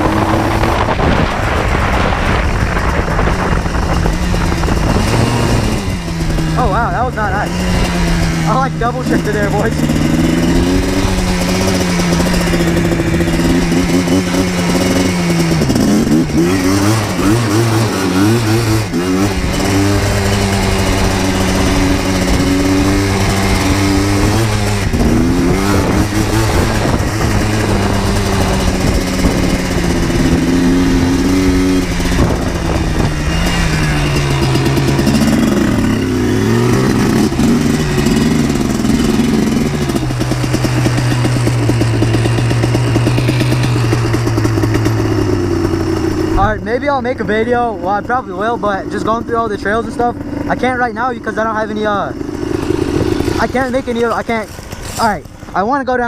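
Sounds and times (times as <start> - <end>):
atv engine accelerating: 0.0 - 56.0.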